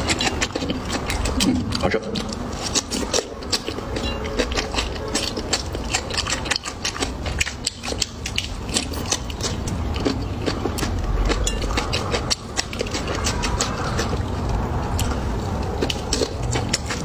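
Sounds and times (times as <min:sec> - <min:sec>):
wet chewing clicks: 0:00.0 - 0:17.0.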